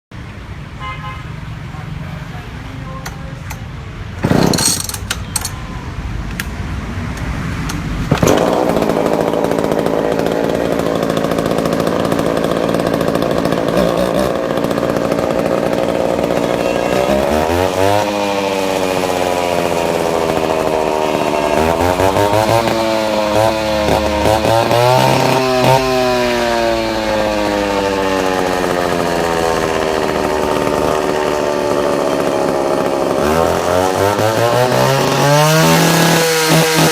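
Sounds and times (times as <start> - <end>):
concrete saw engine revving: 3.0 - 5.6, 6.3 - 36.9.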